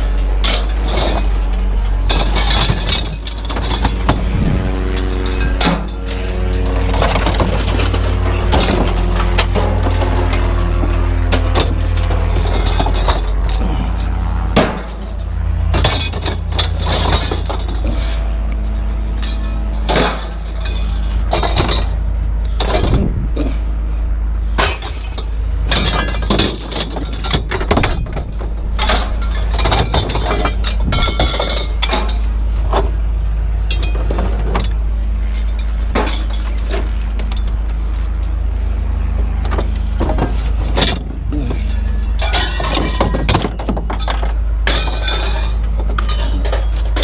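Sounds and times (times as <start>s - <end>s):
scrap metal clanking onto pile: 0.0s - 4.3s, 5.0s - 18.2s, 18.8s - 23.0s, 24.6s - 33.0s, 33.7s - 37.4s, 39.5s - 47.0s
low engine hum: 0.0s - 47.0s.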